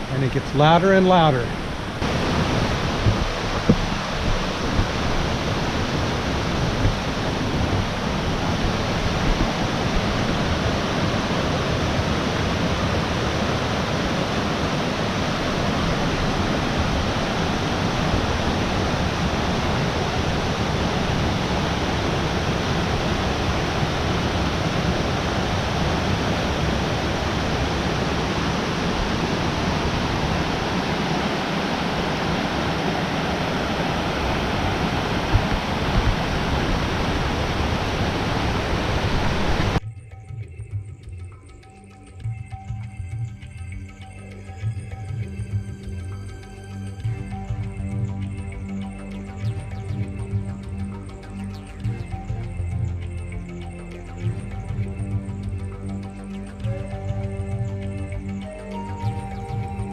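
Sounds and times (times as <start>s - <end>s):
mountain creek rushing: 0.0s - 39.8s, 47.0s - 59.9s.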